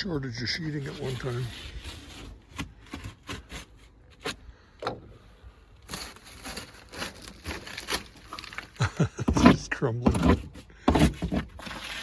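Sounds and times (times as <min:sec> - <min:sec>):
siding being pried off wall: 0:00.9 - 0:05.2, 0:05.8 - 0:12.0.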